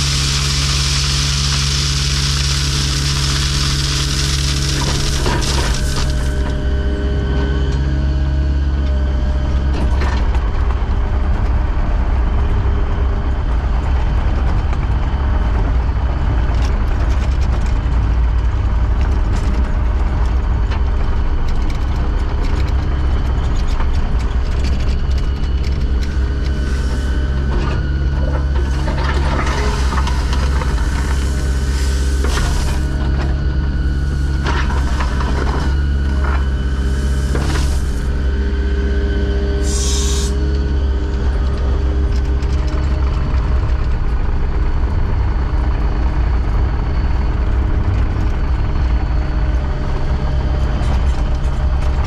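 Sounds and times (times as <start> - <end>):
heavy machinery engine running: 0.0 - 52.0.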